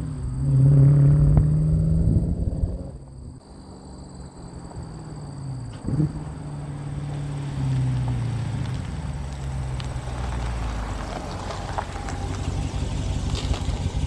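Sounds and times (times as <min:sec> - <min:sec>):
car exhaust rumble: 0:00.0 - 0:14.0.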